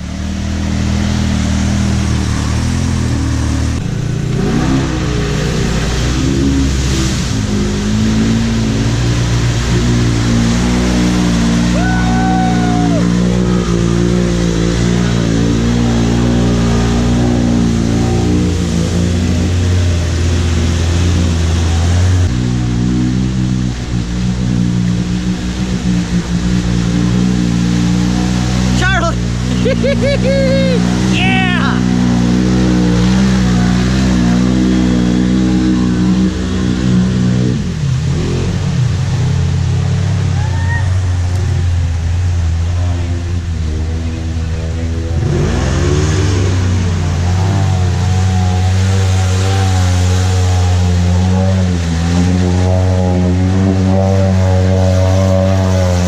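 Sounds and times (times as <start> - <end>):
utility vehicle engine droning: 0.0 - 56.0.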